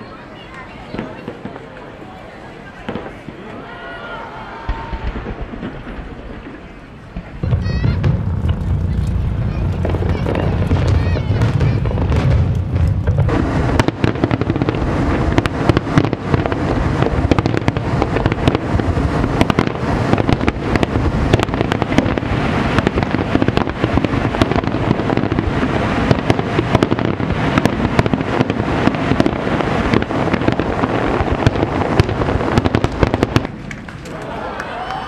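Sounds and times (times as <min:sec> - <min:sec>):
fireworks bursting: 0:00.0 - 0:35.0.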